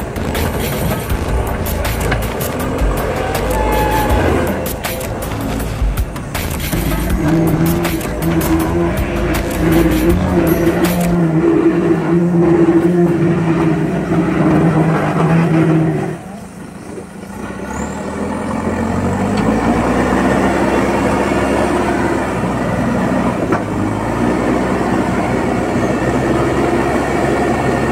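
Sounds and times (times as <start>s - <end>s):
diesel engine working under load: 0.0s - 27.9s.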